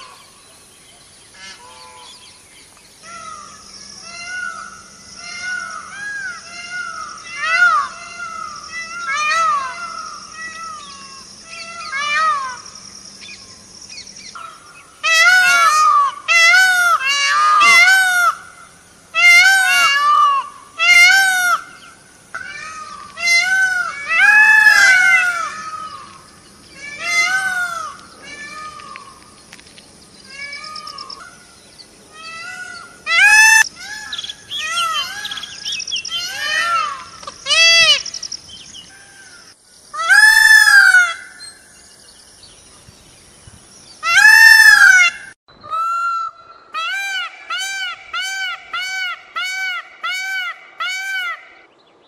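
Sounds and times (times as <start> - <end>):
peacock wailing cries: 3.0 - 12.7, 14.4 - 29.2, 30.2 - 31.5, 32.1 - 38.3, 38.9 - 41.5, 44.0 - 51.7.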